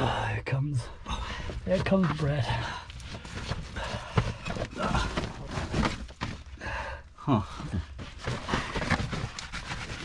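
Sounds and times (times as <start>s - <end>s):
person crawling over rubble: 1.0s - 10.0s.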